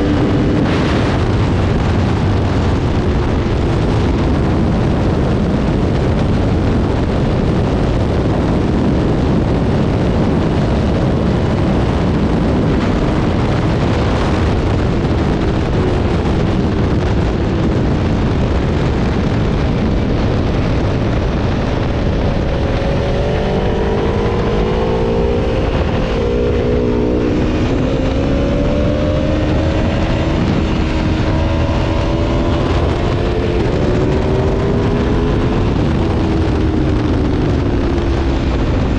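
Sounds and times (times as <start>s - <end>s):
heavy rush of noise: 0.0s - 38.9s
motorcycle engine at speed: 0.0s - 38.9s.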